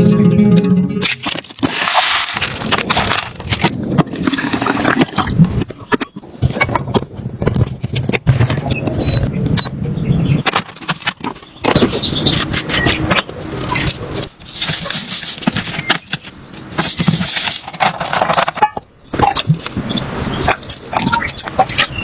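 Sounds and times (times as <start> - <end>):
crunching and scraping handling: 1.0 - 8.7, 10.2 - 22.0.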